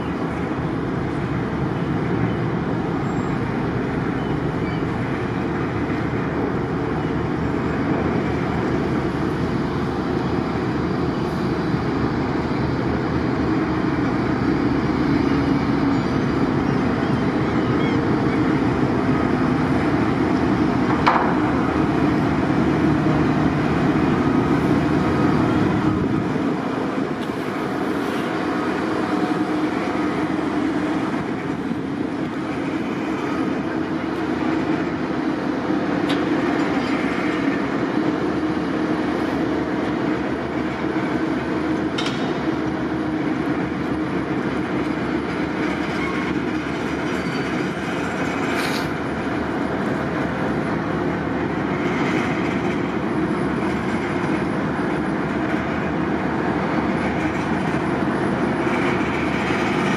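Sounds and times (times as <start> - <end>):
diesel engines rumbling under load: 0.0 - 59.9.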